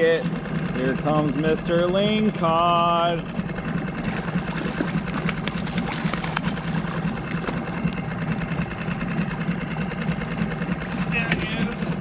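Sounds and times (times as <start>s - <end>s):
small boat motor idling: 0.0s - 12.0s
water splashing: 0.0s - 12.0s.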